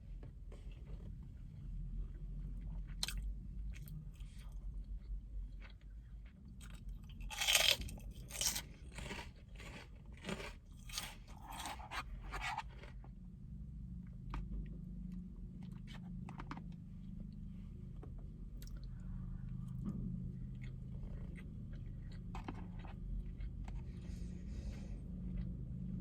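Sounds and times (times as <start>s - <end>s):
low steady hum: 0.0s - 26.0s
crunchy food being chewed: 2.4s - 13.3s, 14.0s - 26.0s.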